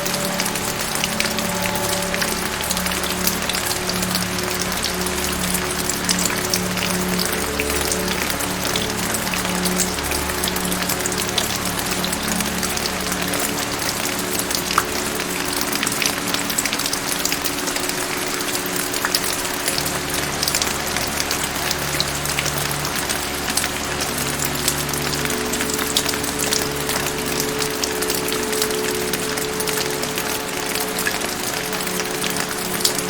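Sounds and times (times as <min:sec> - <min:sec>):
rain drops hitting: 0:00.0 - 0:33.0
soft music of held low notes: 0:00.0 - 0:33.0.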